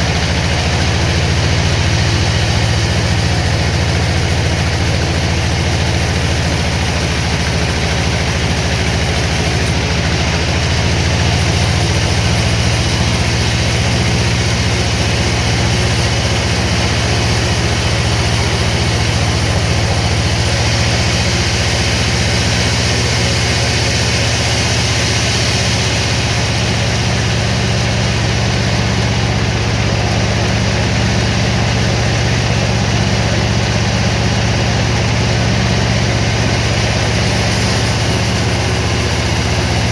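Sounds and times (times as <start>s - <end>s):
heavy engine drone: 0.0s - 39.9s.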